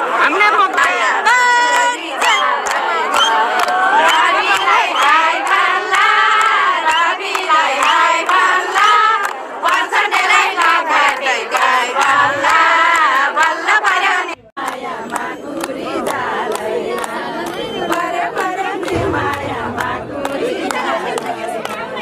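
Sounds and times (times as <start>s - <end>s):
crowd singing and chanting: 0.0s - 22.0s
sharp claps: 0.5s - 13.8s, 14.6s - 22.0s.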